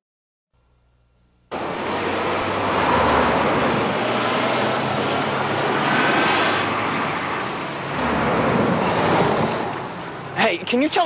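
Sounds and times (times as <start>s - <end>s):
city traffic noise: 1.5s - 11.0s.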